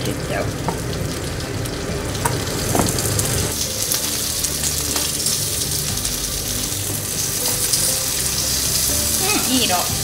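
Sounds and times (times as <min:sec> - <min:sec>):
potatoes sizzling in butter: 0:00.0 - 0:10.0.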